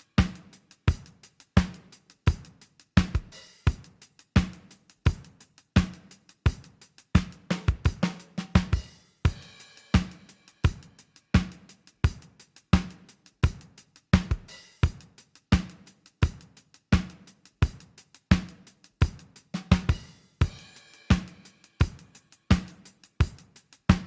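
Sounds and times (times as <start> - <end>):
drum kit groove: 0.0 - 24.0.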